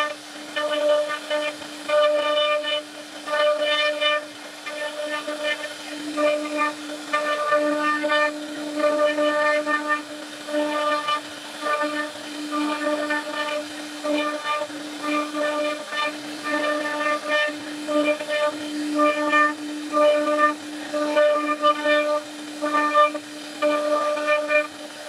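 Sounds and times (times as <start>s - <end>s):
bit cutting wood: 0.0s - 25.0s
router spindle whine: 0.0s - 25.0s.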